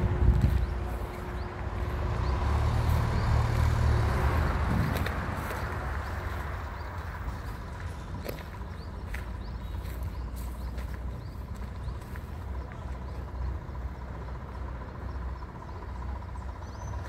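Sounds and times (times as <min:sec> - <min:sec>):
vehicle passing with low rumble: 0:00.0 - 0:17.0.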